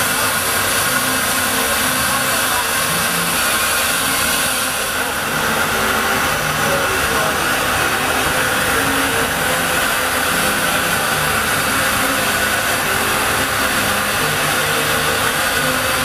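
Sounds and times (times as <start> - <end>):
steam engine dynamo whirring hiss: 0.0 - 16.0.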